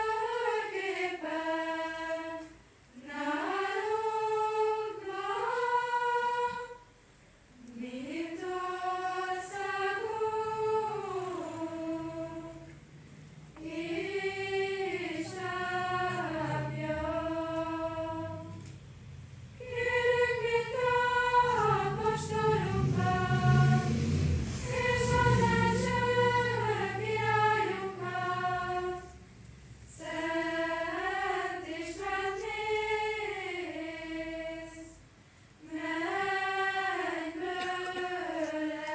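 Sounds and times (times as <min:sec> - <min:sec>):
girls' choir singing unaccompanied: 0:00.0 - 0:38.9.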